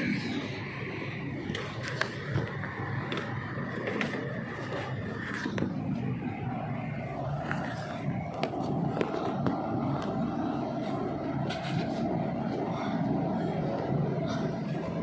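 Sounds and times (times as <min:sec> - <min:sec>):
workshop mechanical hum: 0:00.0 - 0:15.0.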